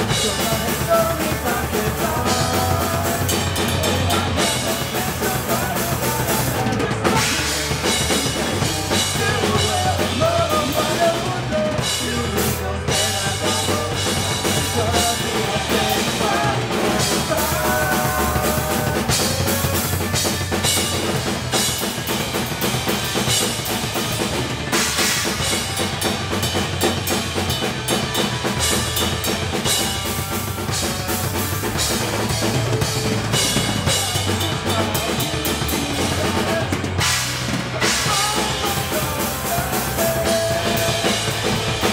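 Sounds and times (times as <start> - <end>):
bass guitar: 0.0 - 41.9
drum kit beat: 0.0 - 41.9
electric guitar: 0.0 - 41.9.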